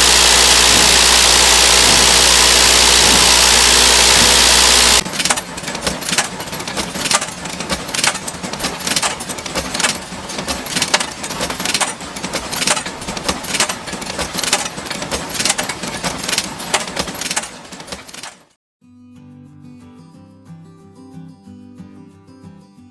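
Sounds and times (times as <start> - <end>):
machinery hum: 0.0 - 18.4
metallic clicks clattering: 0.0 - 18.5.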